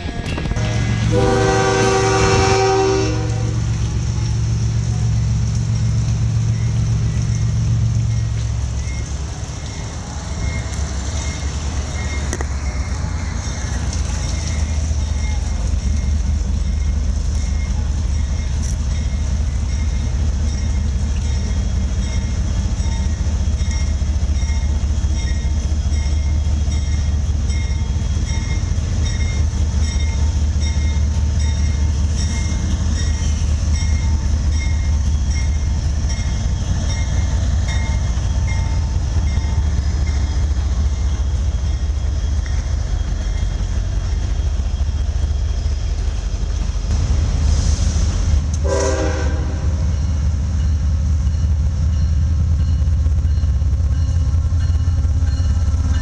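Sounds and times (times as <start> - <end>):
diesel locomotive engine rumble: 0.0 - 56.0
train wheels on rails: 0.0 - 56.0.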